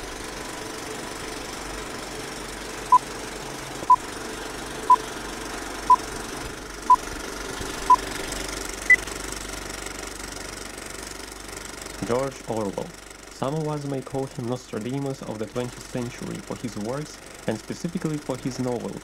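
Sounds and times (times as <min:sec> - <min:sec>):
film projector whirring rattle: 0:00.0 - 0:19.0.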